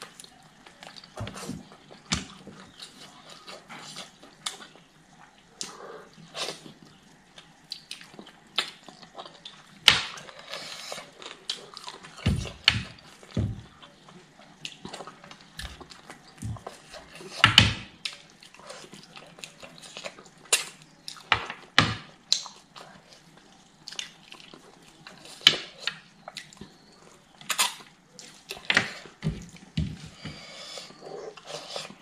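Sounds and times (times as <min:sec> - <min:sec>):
wet chewing and sucking: 0:00.0 - 0:17.4, 0:22.3 - 0:32.0.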